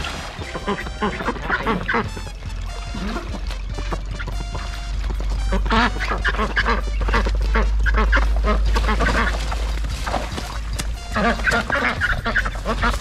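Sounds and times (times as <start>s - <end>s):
ducks quacking: 0.0s - 13.0s
steady low rumble: 0.0s - 13.0s.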